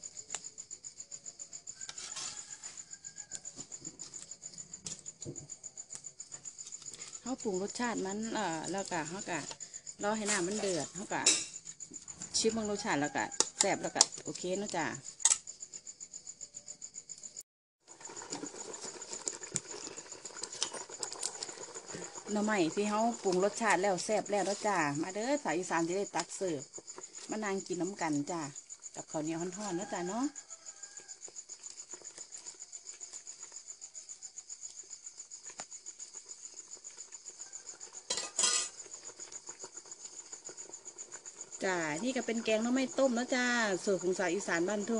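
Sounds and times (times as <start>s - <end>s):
night insects chirping: 0.0s - 44.9s.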